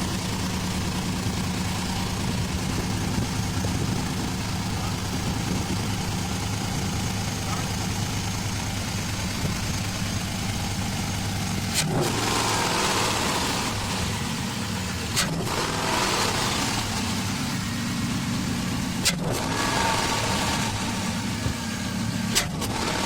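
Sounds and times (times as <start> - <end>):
truck engine exhaust drone: 0.0 - 23.0.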